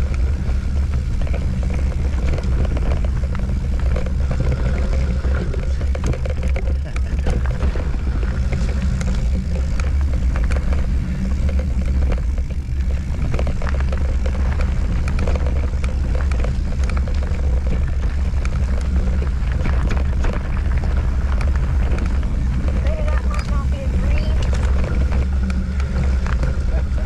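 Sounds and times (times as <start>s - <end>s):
mountain bike rattling over rocks: 0.0s - 27.0s
wind on microphone: 0.0s - 27.0s.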